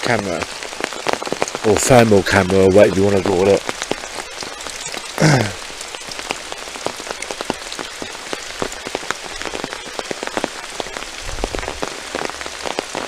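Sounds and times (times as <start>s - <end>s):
heavy rain falling: 0.0s - 13.0s
raindrops ticking: 0.0s - 13.0s.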